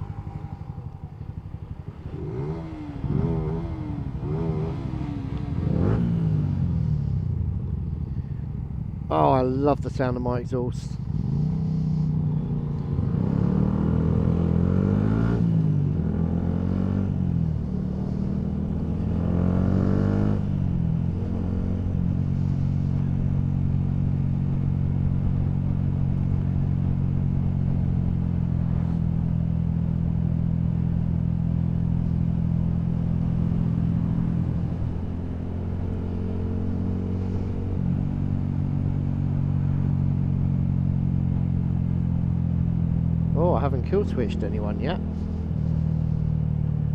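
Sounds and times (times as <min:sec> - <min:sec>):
motorcycle engine revving: 0:00.0 - 0:08.0, 0:10.9 - 0:46.9.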